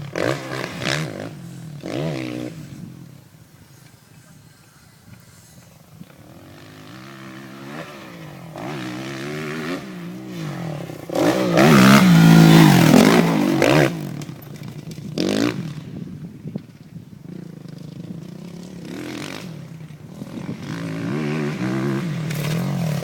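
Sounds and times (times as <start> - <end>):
motocross bike revving: 0.0 - 3.1, 5.3 - 16.2, 17.2 - 23.0.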